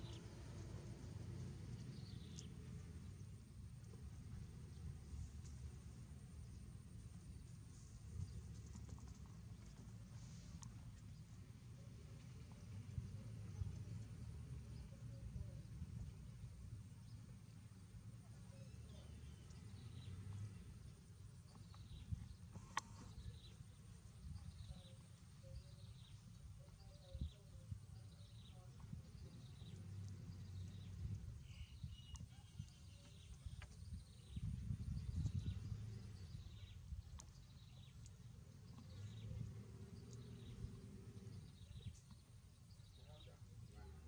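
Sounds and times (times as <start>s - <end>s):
low steady rumble: 0.0s - 44.0s.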